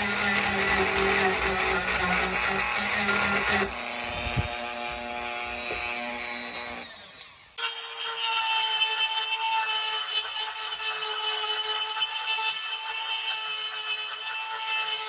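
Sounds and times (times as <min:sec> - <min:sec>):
small power tool whining: 0:00.0 - 0:15.0.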